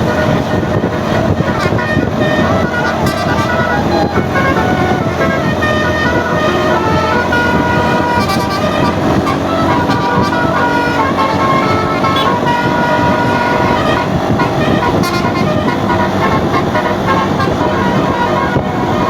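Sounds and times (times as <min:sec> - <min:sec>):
bus horn playing a melody: 0:00.0 - 0:19.0.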